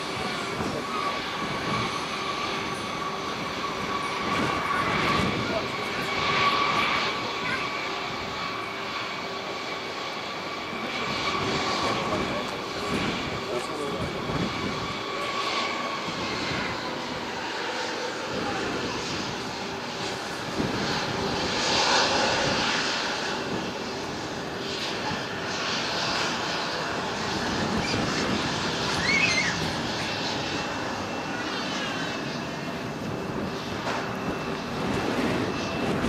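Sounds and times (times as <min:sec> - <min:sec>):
distant jet engines roaring: 0:00.0 - 0:36.0.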